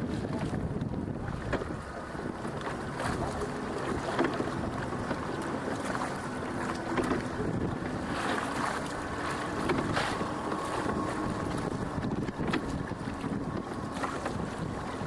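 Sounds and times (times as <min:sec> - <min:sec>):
water washing around boat: 0:00.0 - 0:15.0
wind buffeting microphone: 0:00.0 - 0:15.0.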